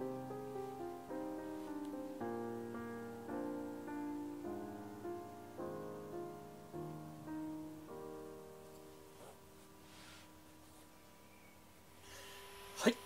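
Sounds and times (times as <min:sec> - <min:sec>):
gentle piano music: 0:00.0 - 0:12.2.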